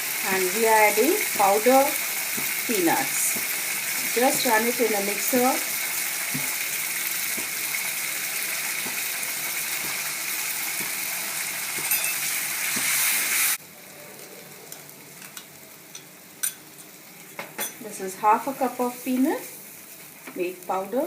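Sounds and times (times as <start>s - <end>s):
sauce sizzling in oil: 0.0s - 21.0s.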